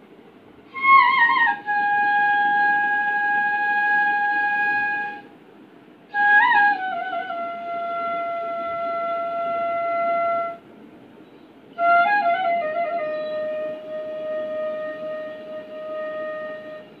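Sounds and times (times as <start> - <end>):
flute playing slow melody: 0.7 - 5.3, 6.1 - 10.7, 11.7 - 17.0.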